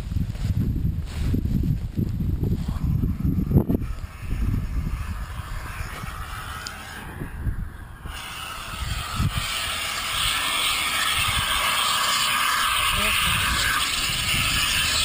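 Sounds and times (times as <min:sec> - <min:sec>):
wind rumbling on microphone: 0:00.0 - 0:15.0
compressed gas hissing: 0:02.4 - 0:15.0.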